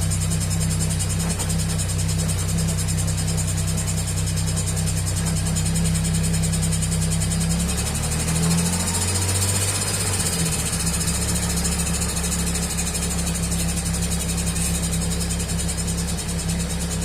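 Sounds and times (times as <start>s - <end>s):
engine running with hiss: 0.0s - 17.0s.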